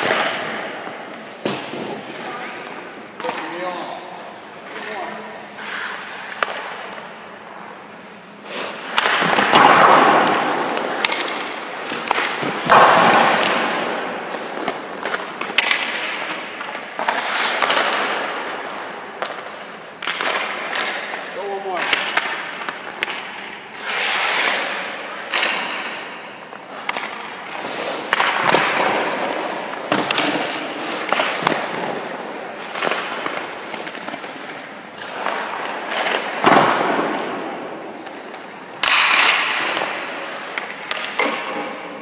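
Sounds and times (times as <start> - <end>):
hockey stick shooting pucks: 0.0 - 3.8, 5.6 - 7.2, 8.4 - 42.0
pucks thudding against pads: 0.0 - 42.0
ice skates scraping on ice: 5.6 - 7.0, 8.4 - 38.5, 39.6 - 41.8.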